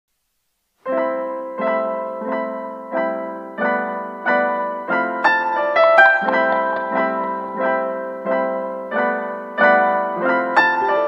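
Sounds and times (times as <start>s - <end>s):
piano chords: 1.0s - 11.0s.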